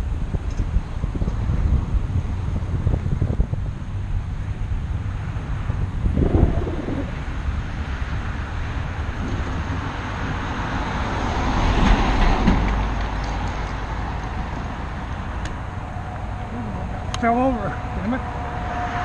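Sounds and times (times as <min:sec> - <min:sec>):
rushing road and traffic noise: 0:00.0 - 0:19.0
wind rumbling on microphone: 0:00.0 - 0:19.0.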